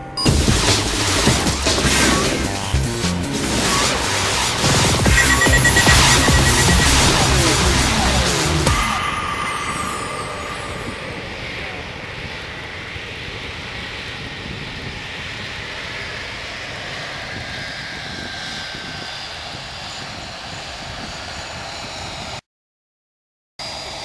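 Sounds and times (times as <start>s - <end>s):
jet engines running: 0.0s - 22.4s.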